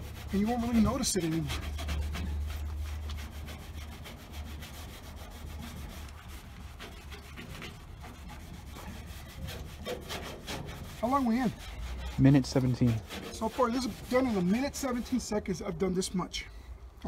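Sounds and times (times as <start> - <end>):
cloth pad rubbing on metal: 0.0 - 15.4.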